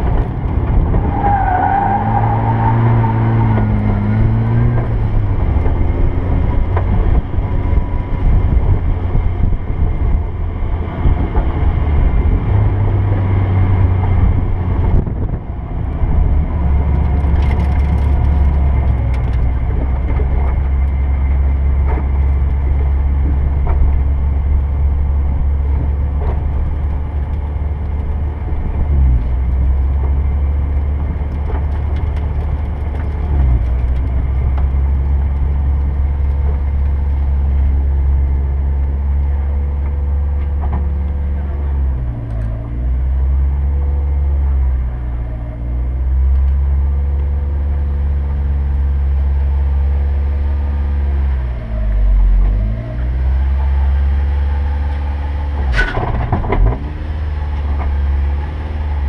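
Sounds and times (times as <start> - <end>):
car engine low drone: 0.0 - 59.0.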